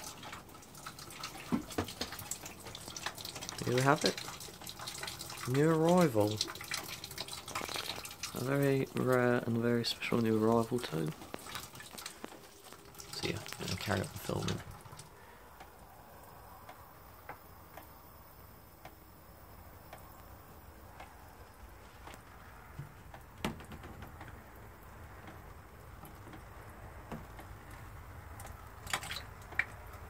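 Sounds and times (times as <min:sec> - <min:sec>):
faint irregular ticks and clicks: 0:00.0 - 0:30.0
low steady background noise: 0:00.0 - 0:30.0.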